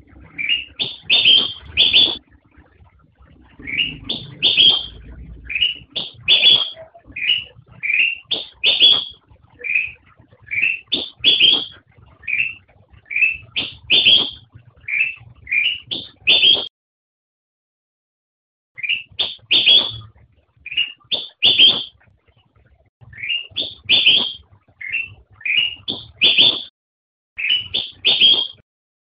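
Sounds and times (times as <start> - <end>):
bird whistling song: 0.0 - 2.2, 3.5 - 16.7, 18.8 - 22.0, 23.1 - 26.7, 27.4 - 28.6.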